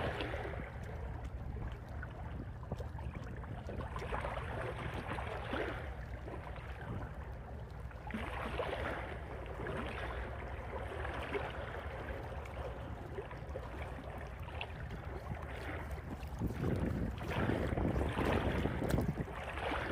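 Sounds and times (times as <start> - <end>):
waves lapping on rocks: 0.0 - 2.1, 3.8 - 19.9
wind rumble on microphone: 0.0 - 19.9.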